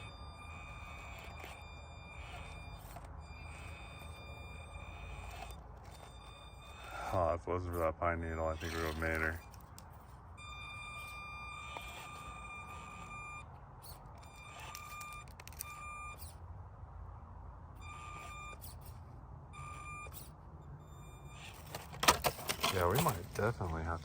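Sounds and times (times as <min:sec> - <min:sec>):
high-pitched electric motor whine: 0:00.0 - 0:16.4, 0:17.7 - 0:23.7.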